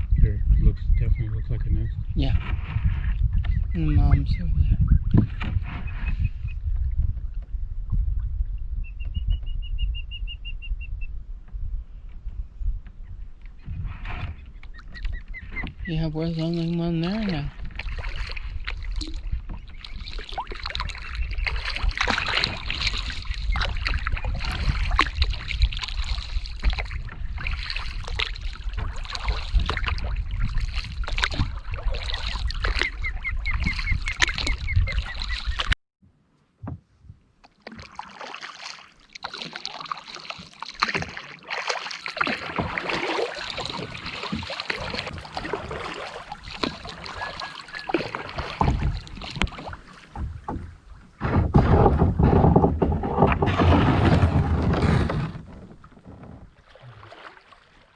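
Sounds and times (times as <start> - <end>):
wind rumble on microphone: 0.0 - 35.8, 42.6 - 56.6
water splashing around paddle: 2.2 - 4.2, 4.8 - 9.5, 11.4 - 35.8, 36.6 - 57.9.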